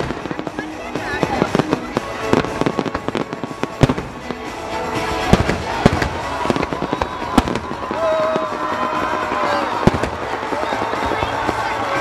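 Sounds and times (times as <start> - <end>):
fireworks bangs: 0.0 - 12.0
fireworks crackling: 0.0 - 12.0
music: 0.0 - 12.0.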